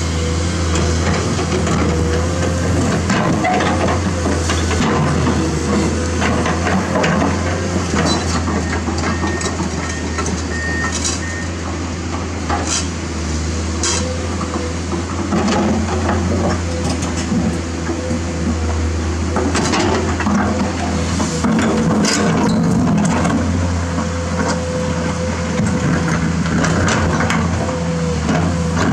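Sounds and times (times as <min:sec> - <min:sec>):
excavator diesel engine droning: 0:00.0 - 0:28.9.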